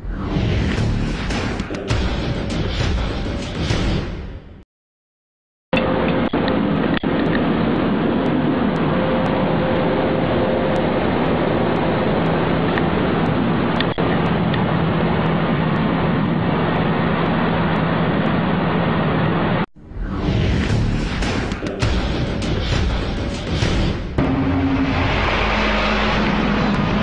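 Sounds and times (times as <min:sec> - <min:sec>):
loud rumbling drone: 0:00.0 - 0:03.8, 0:05.8 - 0:27.0.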